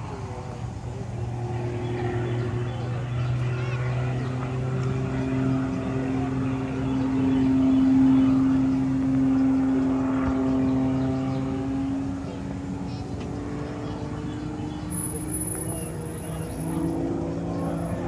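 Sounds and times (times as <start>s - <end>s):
plane engine droning overhead: 0.0s - 18.0s.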